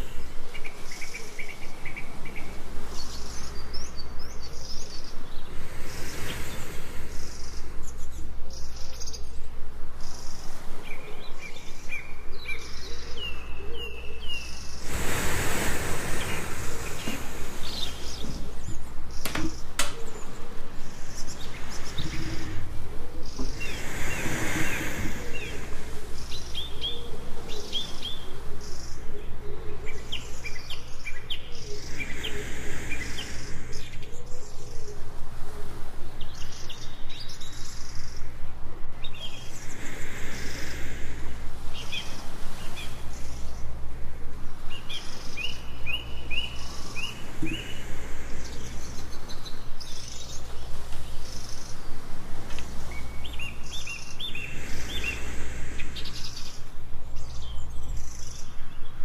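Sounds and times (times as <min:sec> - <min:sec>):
birds chirping and trilling: 0:00.0 - 0:59.0
soft breathing hiss: 0:00.0 - 0:59.0
steady low rumble: 0:02.0 - 0:10.5, 0:14.4 - 0:59.0.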